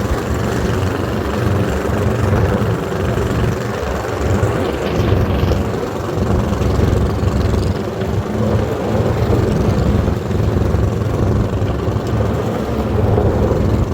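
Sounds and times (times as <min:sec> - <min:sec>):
snowmobile diesel engine running: 0:00.0 - 0:13.9.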